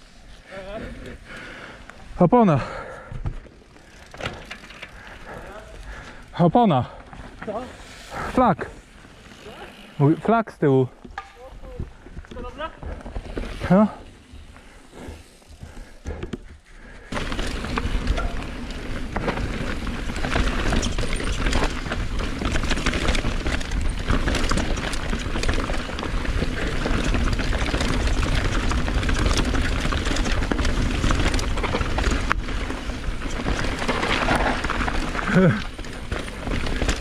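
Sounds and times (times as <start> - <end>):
bike rattling over rocks: 1.2 - 37.0.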